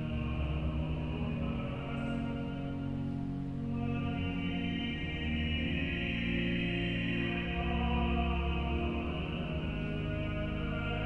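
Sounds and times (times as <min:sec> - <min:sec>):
pipe organ chords: 0:00.0 - 0:11.0.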